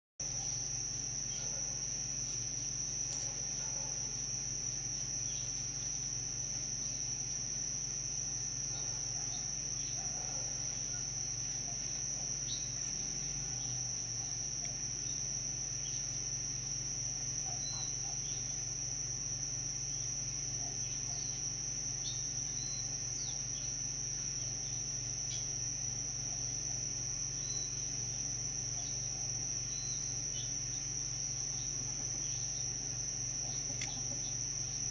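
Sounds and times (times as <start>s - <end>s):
crickets trilling: 0.2s - 34.9s
low steady hum: 0.2s - 34.9s.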